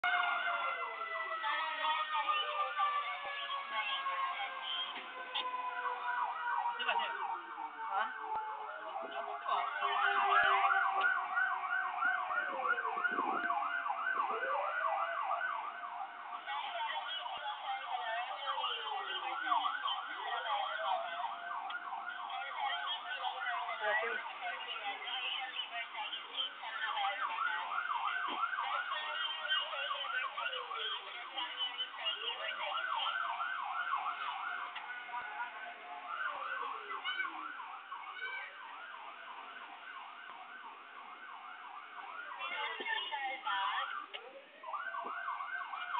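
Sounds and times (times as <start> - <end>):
fast yelping siren: 0.0 - 45.9
wailing siren: 0.0 - 45.9.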